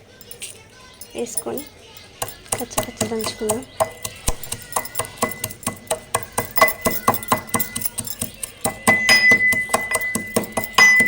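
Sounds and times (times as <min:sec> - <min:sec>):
pestle pounding in mortar: 0:02.1 - 0:11.0.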